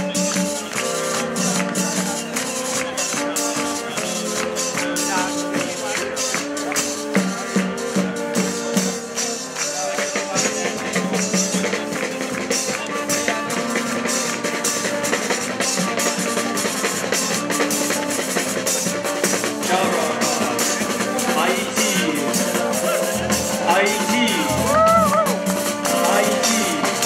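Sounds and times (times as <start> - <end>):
drums and tambourine beat: 0.0 - 27.0
held wind instrument notes: 0.0 - 27.0
street parade band playing: 0.0 - 27.0.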